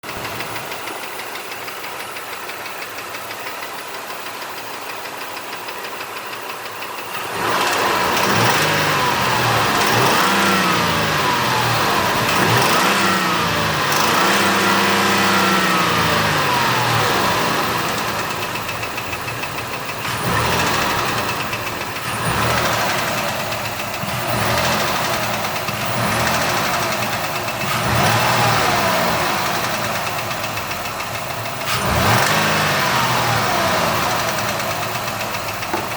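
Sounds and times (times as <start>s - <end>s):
car engine idling and revving: 0.0s - 35.9s
engine knocking: 0.0s - 35.9s.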